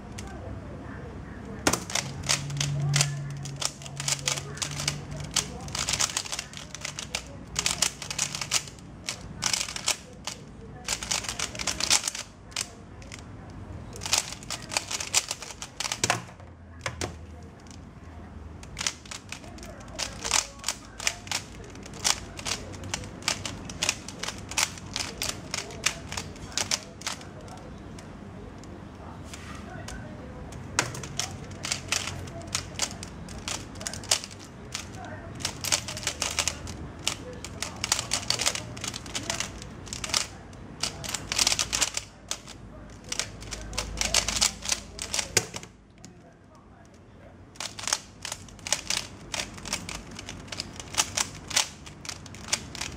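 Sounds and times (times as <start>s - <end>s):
puzzle cube plastic clicks: 1.5s - 17.9s, 18.6s - 28.8s, 29.8s - 46.2s, 47.6s - 52.9s.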